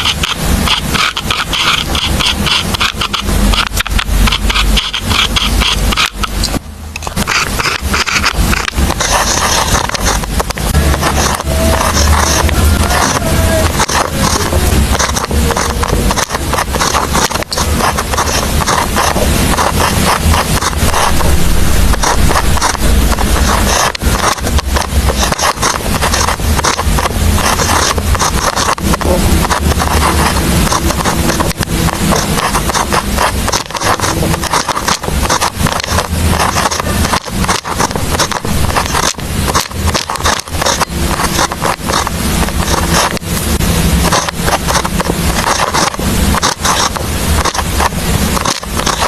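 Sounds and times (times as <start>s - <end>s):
pen scratching on paper: 0.0s - 49.0s.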